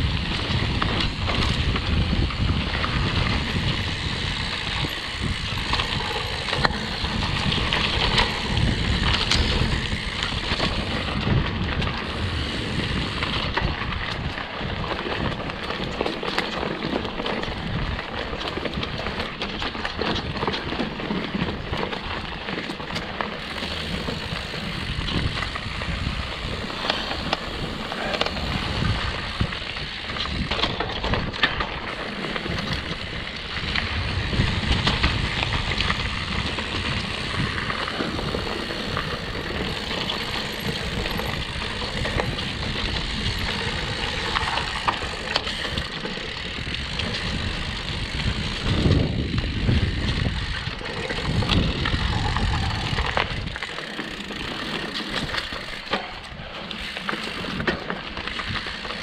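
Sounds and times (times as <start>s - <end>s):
wind on microphone: 0.0s - 16.0s, 23.4s - 59.0s
bike knocks and rattles: 0.0s - 59.0s
tyres rolling over dirt: 0.0s - 59.0s.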